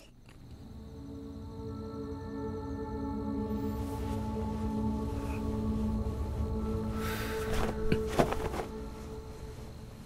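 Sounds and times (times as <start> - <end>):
ringing drone music: 0.5 - 10.0.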